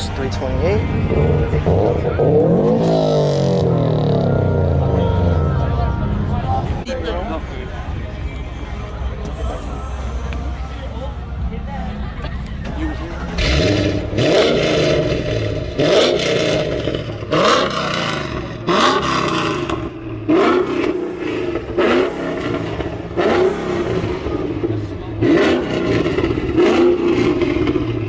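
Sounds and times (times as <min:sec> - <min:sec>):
car engine revving: 0:00.0 - 0:06.9, 0:08.6 - 0:28.0.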